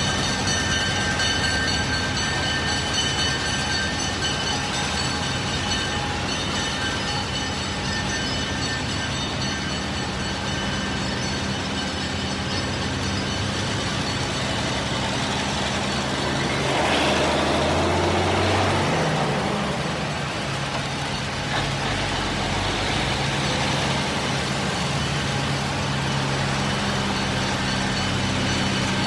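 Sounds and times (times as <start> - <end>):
freight train running: 0.0 - 29.0
rushing noise: 0.0 - 29.0.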